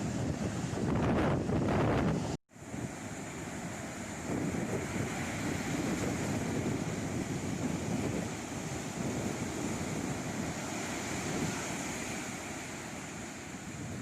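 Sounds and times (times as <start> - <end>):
ocean surf washing in: 0.0 - 14.0
wind on microphone: 0.0 - 14.0.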